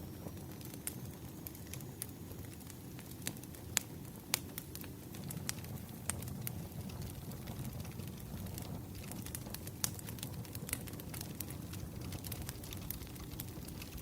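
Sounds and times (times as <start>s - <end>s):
burning logs popping: 0.0s - 14.0s
wood fire rumble and hiss: 0.0s - 14.0s.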